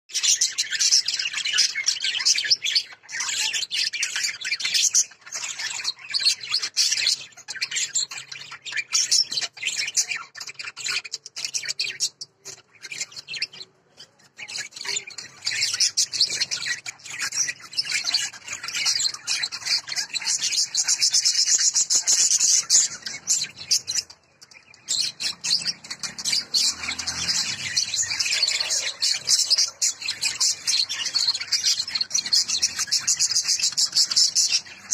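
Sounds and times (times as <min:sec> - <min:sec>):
budgerigars chattering: 0:00.1 - 0:34.9.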